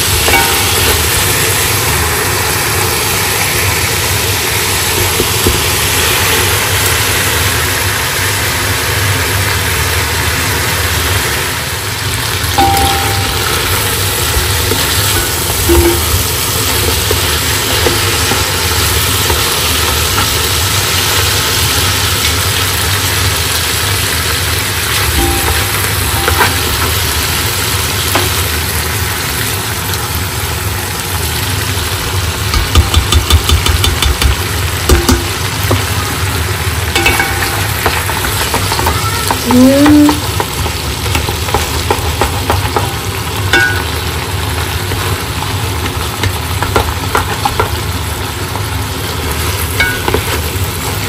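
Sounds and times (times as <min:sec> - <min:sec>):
meat sizzling in a pot: 0:00.0 - 0:51.0.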